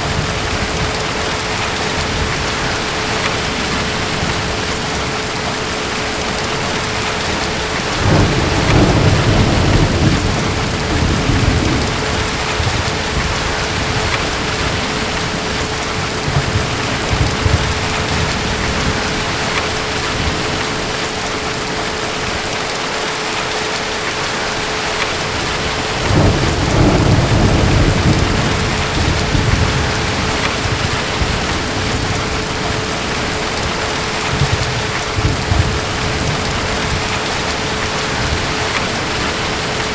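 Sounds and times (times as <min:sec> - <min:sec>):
distant thunder rumbling: 0:00.0 - 0:21.7, 0:25.3 - 0:39.9
heavy rain: 0:00.0 - 0:39.9.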